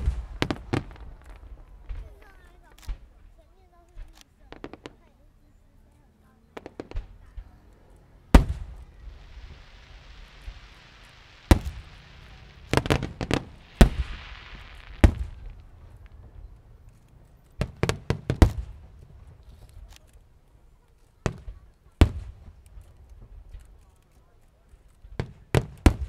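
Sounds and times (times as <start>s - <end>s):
fireworks bangs: 0.0s - 5.2s, 6.4s - 20.2s, 21.2s - 24.0s, 25.0s - 26.0s
fireworks hissing crackle: 0.0s - 5.2s, 6.6s - 26.0s.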